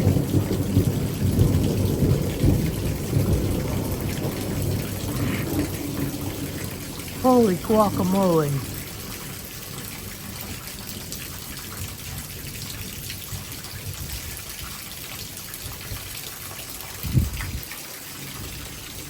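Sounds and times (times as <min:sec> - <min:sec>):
heavy rain falling: 0:00.0 - 0:19.0
water splashing from gutter: 0:00.0 - 0:19.0.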